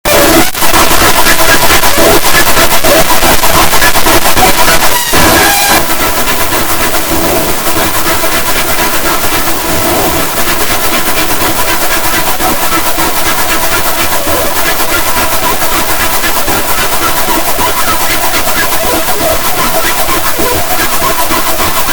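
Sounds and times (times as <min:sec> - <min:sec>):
distorted glitched stuttering noise: 0:00.0 - 0:21.9.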